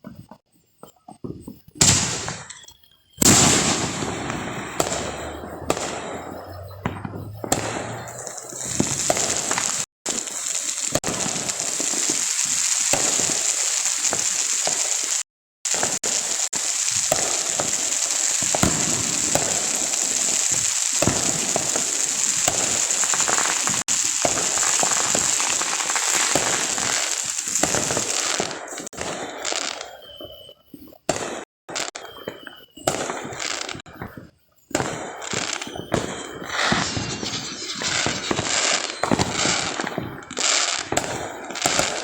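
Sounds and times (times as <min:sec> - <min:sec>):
fireworks crackling and hissing: 0:00.0 - 0:42.0.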